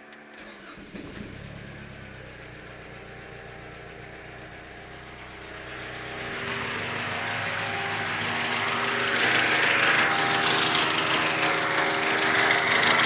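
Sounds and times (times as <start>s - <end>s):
car engine idling: 0.3s - 13.0s.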